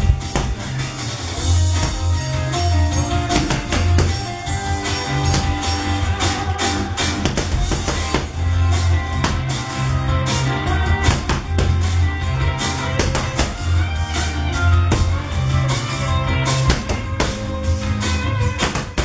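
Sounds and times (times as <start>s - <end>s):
bass line: 0.0s - 19.0s
drum kit beat: 0.0s - 19.0s.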